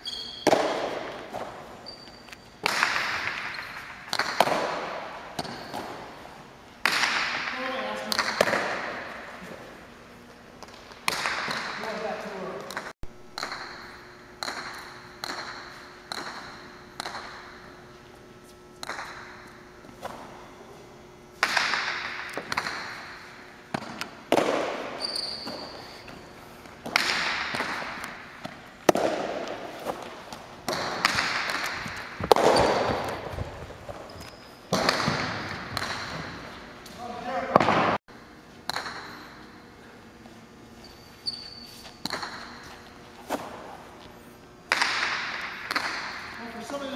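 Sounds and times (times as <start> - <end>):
ball striking walls with echo: 0.0 - 9.8, 10.5 - 17.9, 18.8 - 39.8, 41.2 - 46.9.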